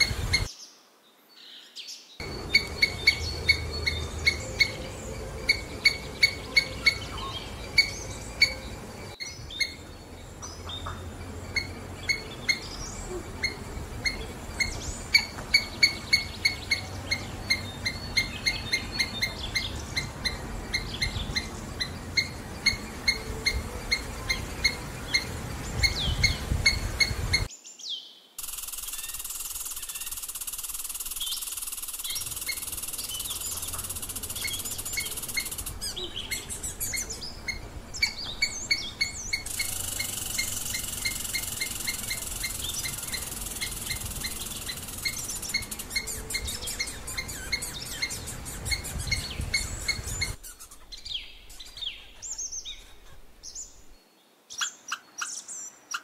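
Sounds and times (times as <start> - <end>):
birdsong: 0.0 - 56.0
steady outdoor hiss: 0.0 - 56.0.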